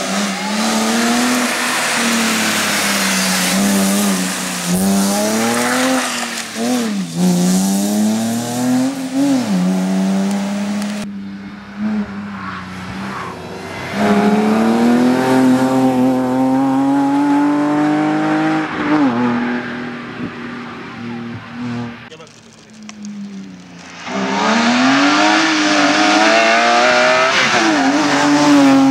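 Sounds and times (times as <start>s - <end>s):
rally car engine revving: 0.0s - 22.1s, 22.8s - 28.9s.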